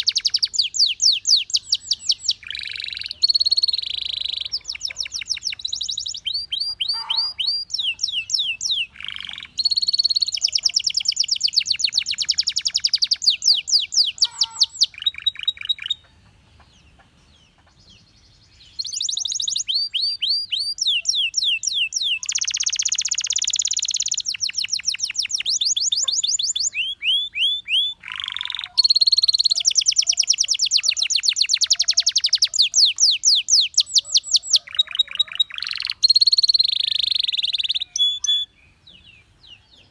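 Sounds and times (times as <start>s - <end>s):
canary singing in rapid trills: 0.0s - 16.1s, 18.7s - 39.9s.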